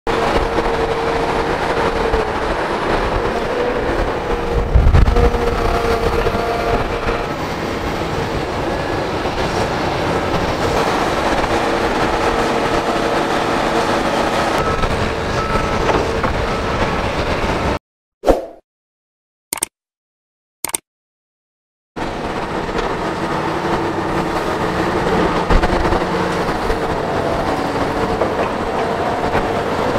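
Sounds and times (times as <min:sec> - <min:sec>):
excavator engines droning: 0:00.1 - 0:17.8, 0:22.0 - 0:29.9.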